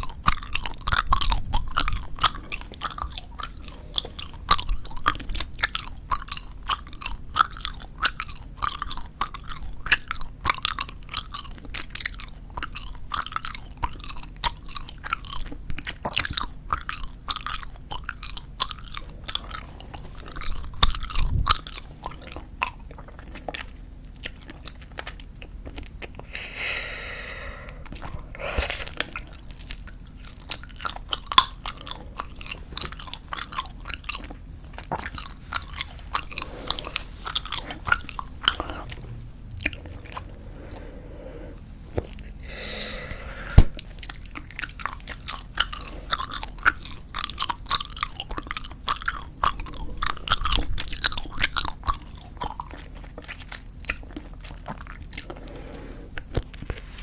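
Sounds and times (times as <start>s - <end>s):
wet gum chewing: 0.0s - 57.0s.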